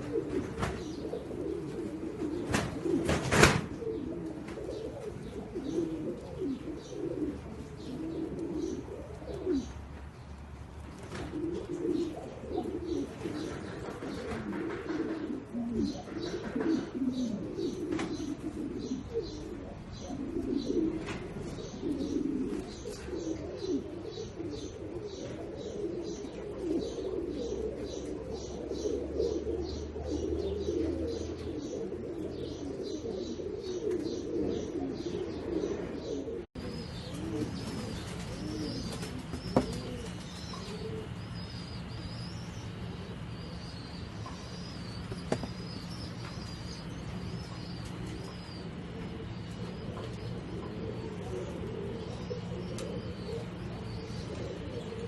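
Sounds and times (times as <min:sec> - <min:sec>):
doves cooing: 0:00.0 - 0:55.0
small birds chirping: 0:00.0 - 0:55.0
steady low hum: 0:00.0 - 0:55.0.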